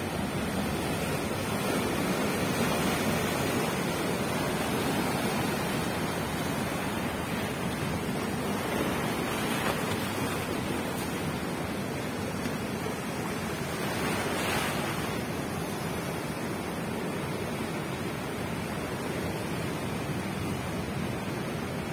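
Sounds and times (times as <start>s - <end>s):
ocean surf breaking: 0.0s - 21.9s.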